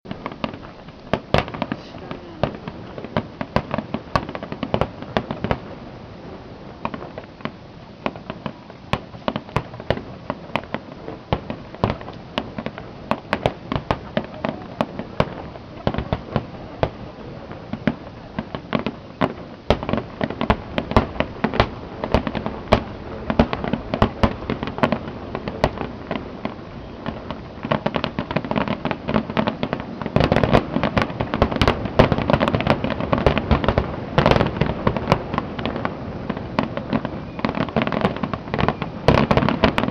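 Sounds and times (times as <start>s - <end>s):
fireworks bursting: 0.1s - 39.9s.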